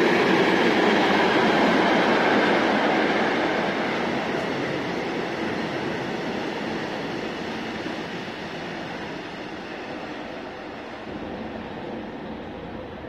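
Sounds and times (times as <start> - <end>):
freight train passing: 0.0 - 13.0.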